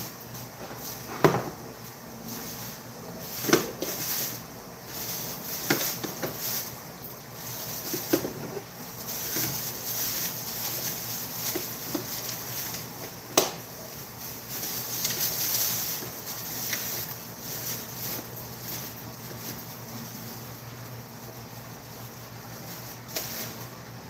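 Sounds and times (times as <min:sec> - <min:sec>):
plastic bag rustling: 0:00.0 - 0:24.0.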